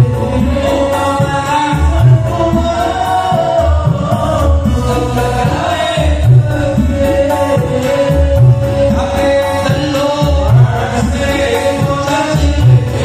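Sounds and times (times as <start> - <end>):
man singing devotional song: 0.0 - 13.0
steady low beat: 0.0 - 13.0.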